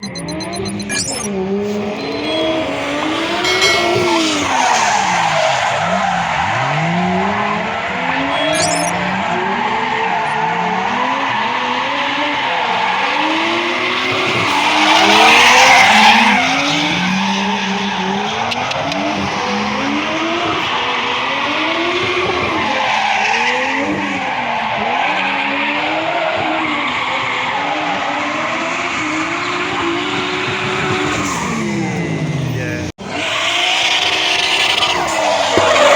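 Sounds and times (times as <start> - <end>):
car engines revving: 0.0 - 35.9
tyres skidding and squealing: 0.0 - 35.9.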